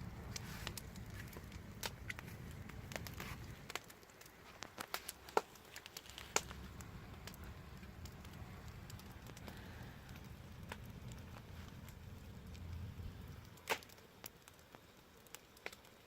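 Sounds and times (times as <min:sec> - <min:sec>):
low steady rumble: 0:00.0 - 0:04.6, 0:05.2 - 0:13.7
wood fire crackling and popping: 0:00.0 - 0:16.0.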